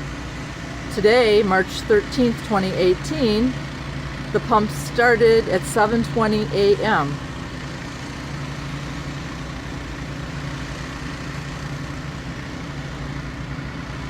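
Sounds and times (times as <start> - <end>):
water pump engines droning: 0.0 - 14.0.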